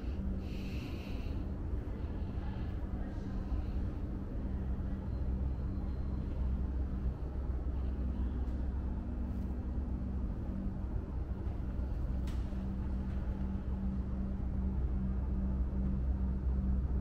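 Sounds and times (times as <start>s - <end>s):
faint steady tone: 0.0s - 17.0s
low mechanical hum: 0.0s - 17.0s.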